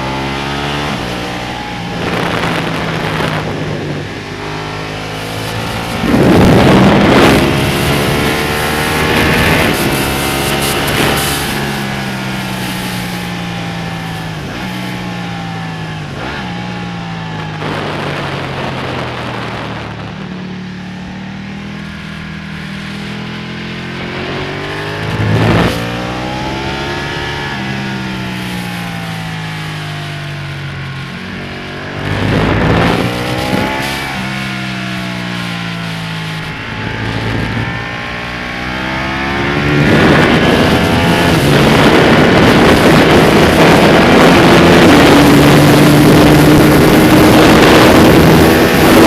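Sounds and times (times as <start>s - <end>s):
motorcycle engine at racing speed: 0.0s - 49.0s
wind noise: 0.0s - 49.0s.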